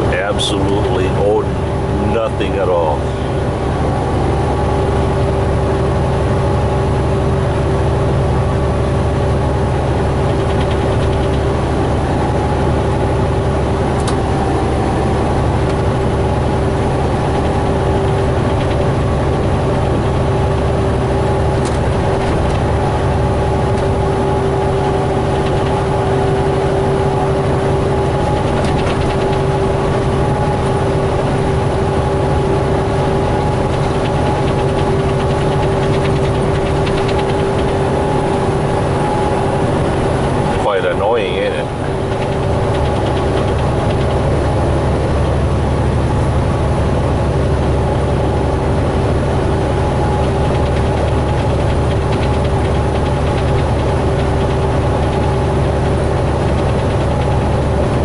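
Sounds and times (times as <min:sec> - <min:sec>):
constant hum: 0:00.0 - 0:58.0
diesel engine drone: 0:00.0 - 0:58.0
road noise: 0:00.0 - 0:58.0.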